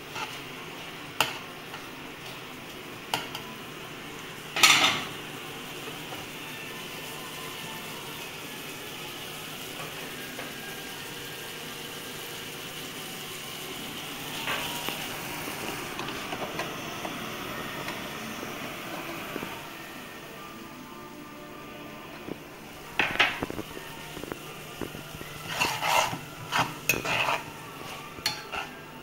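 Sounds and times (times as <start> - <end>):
tomatoes simmering and sizzling: 0.0 - 29.0.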